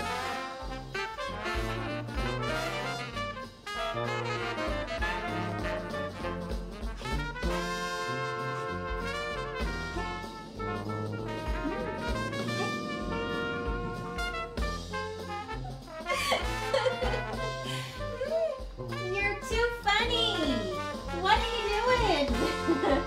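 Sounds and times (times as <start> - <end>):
upbeat jazz with brass: 0.0 - 23.0.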